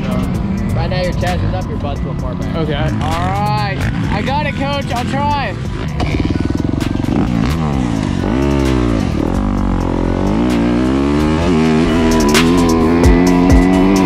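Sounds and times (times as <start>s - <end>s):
dirt bike engine accelerating: 0.0s - 14.0s.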